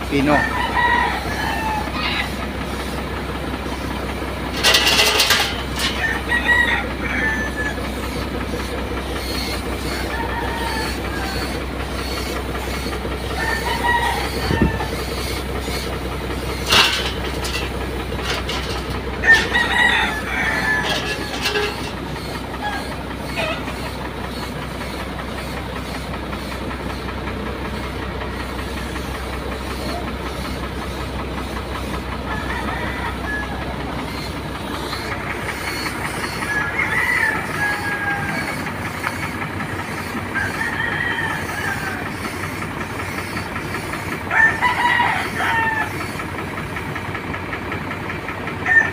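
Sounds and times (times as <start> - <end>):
roosters crowing: 0.1 - 24.4, 31.5 - 46.4, 48.6 - 48.9.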